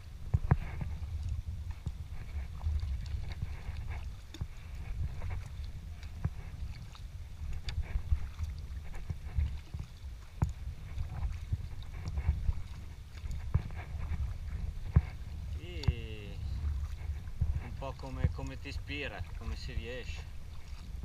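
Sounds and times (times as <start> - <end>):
low rumble: 0.0 - 21.0
paddle water splashing: 0.0 - 21.0.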